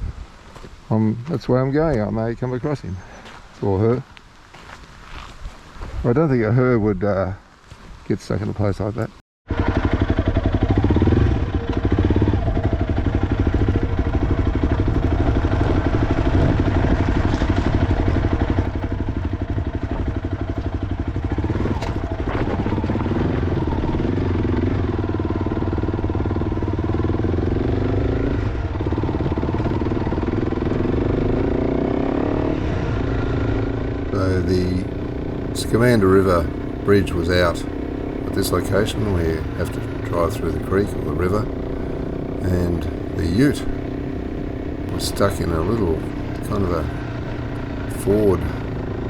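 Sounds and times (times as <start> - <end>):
motorcycle engine revving: 9.5 - 49.0.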